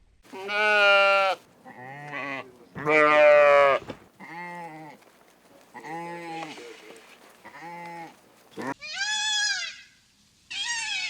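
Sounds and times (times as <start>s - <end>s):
sheep bleating: 0.3s - 9.6s.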